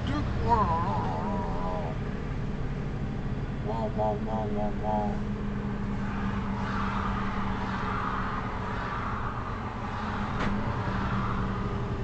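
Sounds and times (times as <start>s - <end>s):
vehicle cabin engine and road noise: 0.0s - 12.0s.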